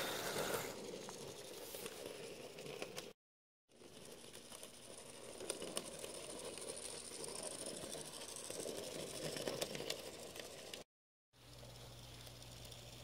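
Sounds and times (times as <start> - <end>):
model train motor whirr: 0.0 - 13.0
wheel clatter and clicks: 0.1 - 10.8, 11.4 - 13.0.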